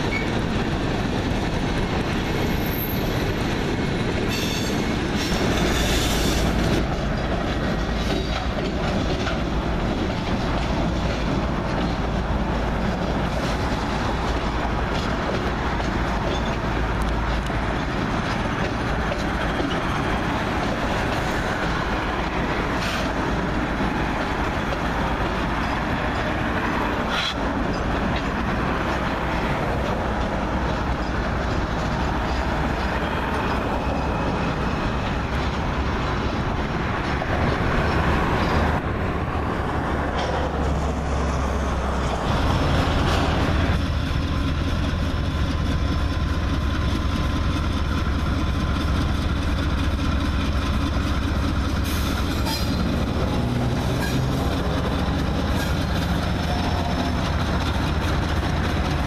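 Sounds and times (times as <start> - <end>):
train wheels clattering on rails: 0.0 - 59.0
diesel engine drone: 8.8 - 59.0.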